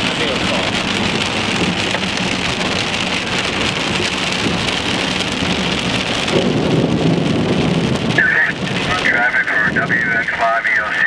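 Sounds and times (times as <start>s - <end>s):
heavy rain drumming on a car: 0.0s - 11.0s.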